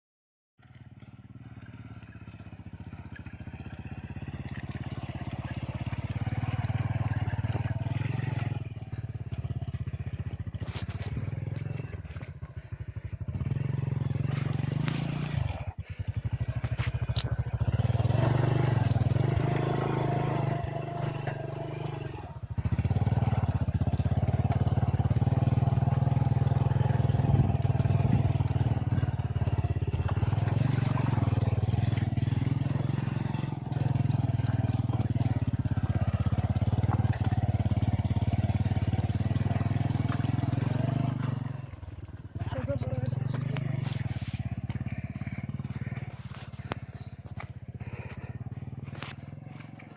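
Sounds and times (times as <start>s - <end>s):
motorcycle engine running: 0.6s - 49.9s.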